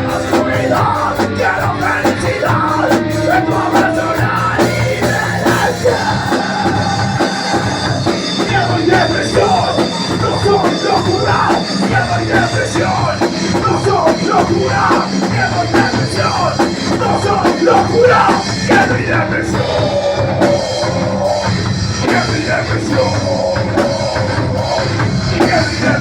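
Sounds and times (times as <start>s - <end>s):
metal band playing: 0.0s - 26.0s.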